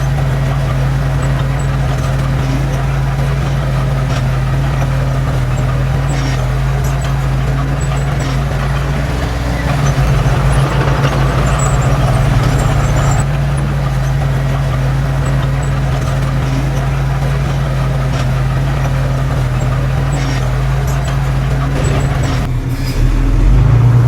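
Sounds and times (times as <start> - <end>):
diesel engine of heavy machinery: 0.0 - 24.0.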